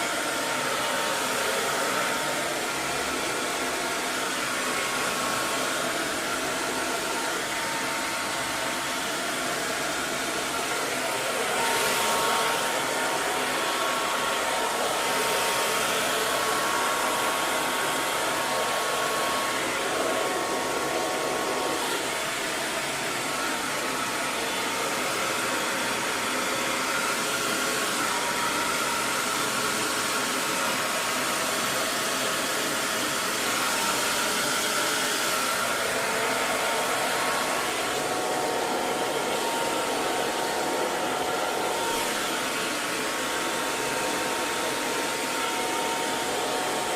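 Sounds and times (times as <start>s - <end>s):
hair dryer blowing: 0.0s - 46.9s.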